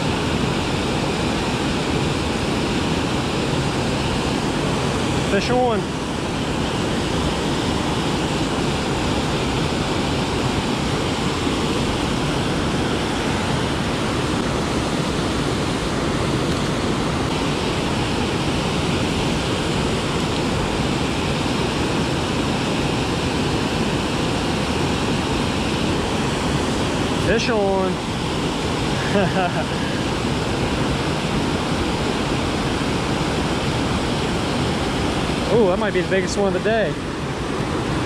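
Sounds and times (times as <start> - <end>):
water rushing over a dam: 0.0 - 38.0.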